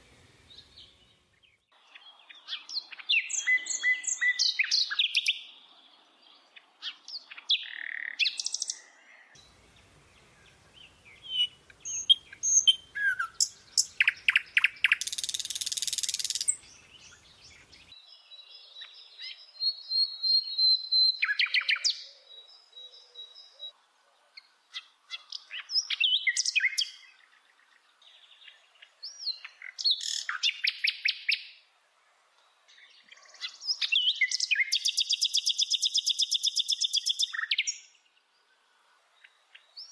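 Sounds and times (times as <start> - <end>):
bird singing: 0.0 - 31.6, 32.4 - 39.9.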